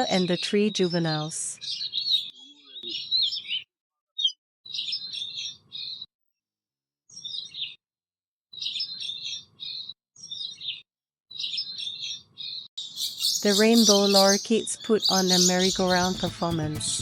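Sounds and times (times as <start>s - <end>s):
starlings chirping: 0.0s - 6.1s, 7.1s - 7.8s, 8.6s - 17.0s.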